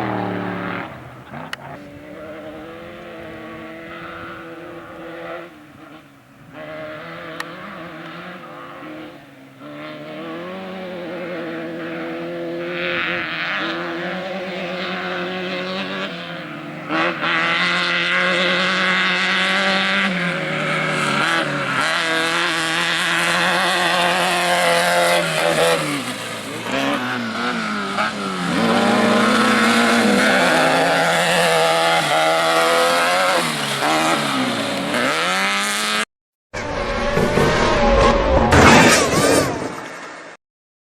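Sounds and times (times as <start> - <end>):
race vehicle engines revving: 0.0 - 36.1.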